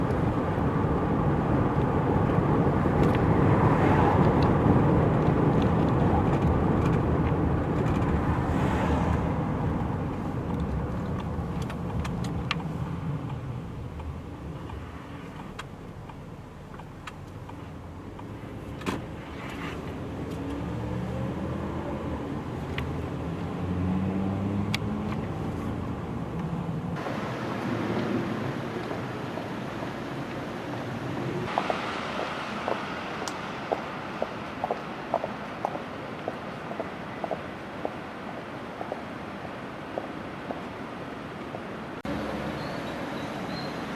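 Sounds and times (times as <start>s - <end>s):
car passing: 0.0s - 11.6s, 17.8s - 43.9s
vehicle engine hum: 0.0s - 43.9s.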